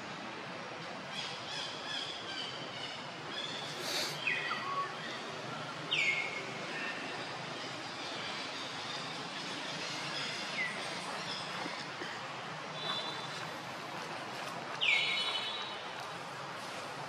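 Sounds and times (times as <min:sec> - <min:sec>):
steady background hiss: 0:00.0 - 0:17.0
birds chirping: 0:01.2 - 0:13.8, 0:14.8 - 0:15.8.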